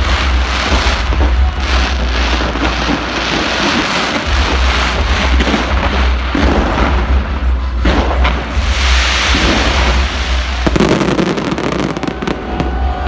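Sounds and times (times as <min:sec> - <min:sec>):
fireworks crackling: 0:00.0 - 0:13.0
low rumble: 0:00.0 - 0:13.0.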